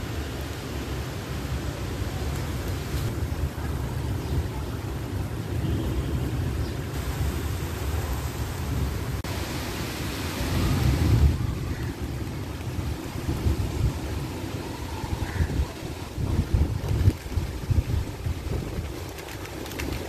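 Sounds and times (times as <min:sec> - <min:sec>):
heavy rain on pavement and cars: 0:00.0 - 0:20.0
wind rumbling on microphone: 0:00.0 - 0:20.0.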